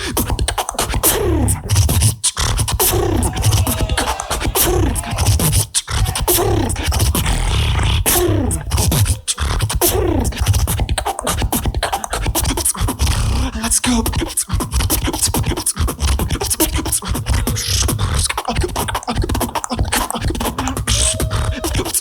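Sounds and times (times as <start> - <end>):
beatboxing into a microphone: 0.0 - 22.0.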